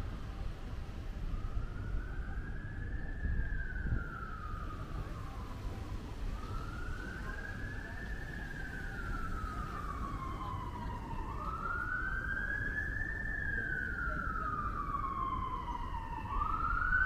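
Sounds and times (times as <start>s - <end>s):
low street rumble: 0.0s - 17.0s
siren wailing: 1.1s - 17.0s.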